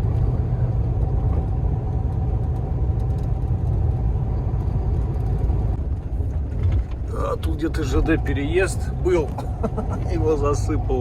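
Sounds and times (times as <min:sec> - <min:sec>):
truck engine low rumble: 0:00.0 - 0:11.0.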